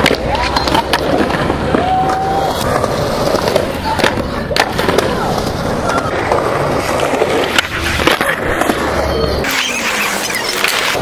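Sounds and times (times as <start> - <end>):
skateboard clacking: 0.0 - 11.0
skateboard wheels rolling on concrete: 0.0 - 11.0.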